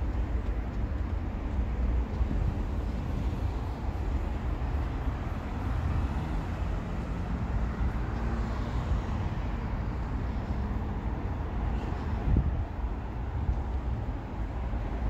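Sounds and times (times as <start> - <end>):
distant road traffic: 0.0 - 15.0
low urban rumble: 0.0 - 15.0.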